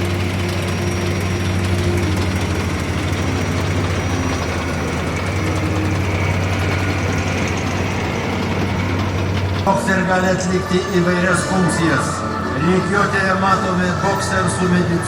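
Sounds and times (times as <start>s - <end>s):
armoured vehicles driving past: 0.0s - 15.0s.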